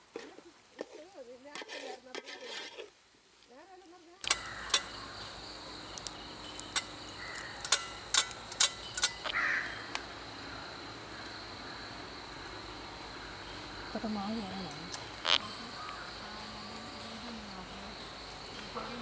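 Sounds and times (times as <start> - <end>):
crickets chirring: 3.6 - 19.0.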